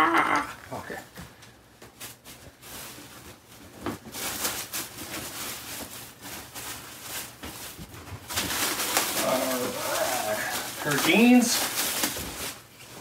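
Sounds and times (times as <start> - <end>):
plastic bag crinkling: 2.0 - 13.0.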